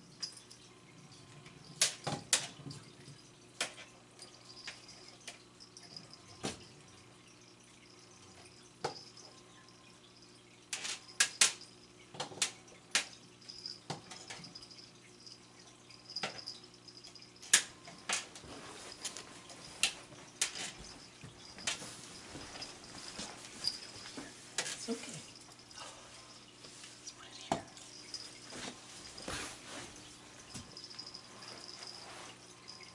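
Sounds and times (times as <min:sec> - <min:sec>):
refrigerator hum: 0:00.0 - 0:32.9.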